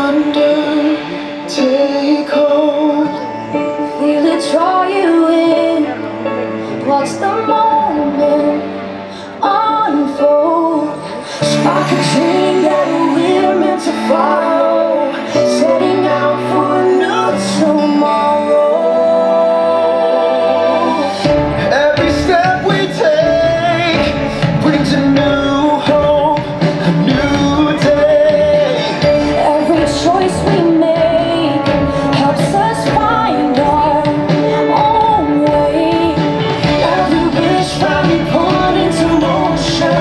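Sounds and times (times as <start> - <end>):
pop show song with singing: 0.0 - 40.0.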